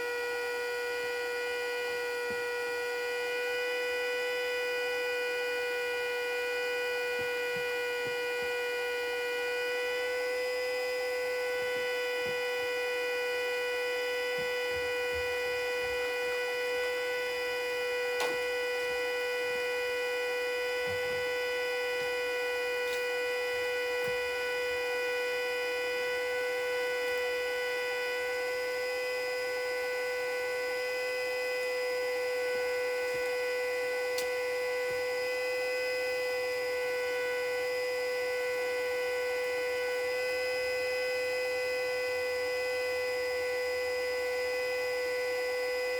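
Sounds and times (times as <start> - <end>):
warning siren steady tone: 0.0 - 45.9.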